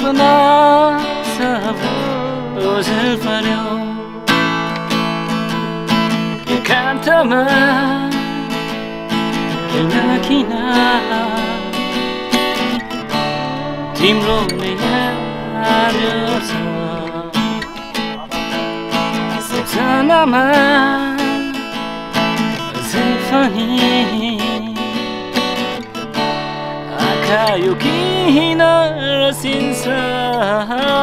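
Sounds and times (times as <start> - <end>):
man singing: 0.0 - 25.7, 26.8 - 31.0
acoustic guitar strumming: 0.0 - 31.0.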